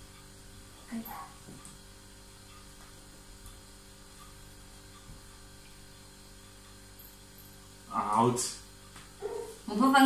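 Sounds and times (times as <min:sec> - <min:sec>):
faint mains hum: 0:00.0 - 0:10.0.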